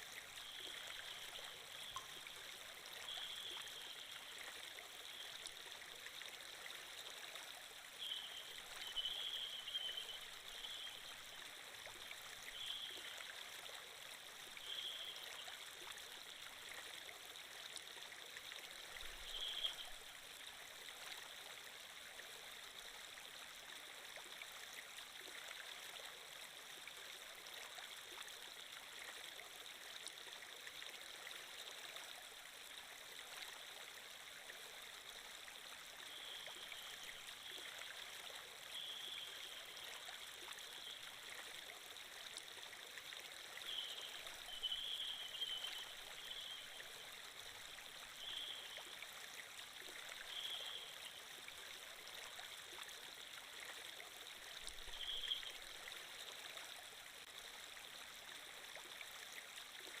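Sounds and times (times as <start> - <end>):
stream trickling: 0.0 - 60.0.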